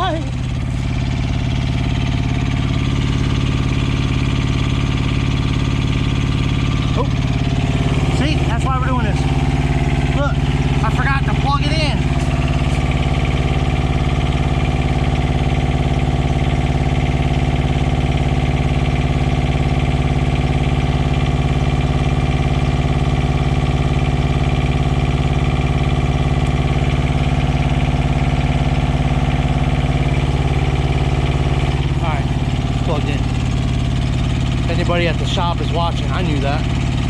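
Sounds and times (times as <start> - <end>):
diesel generator running: 0.0 - 37.0.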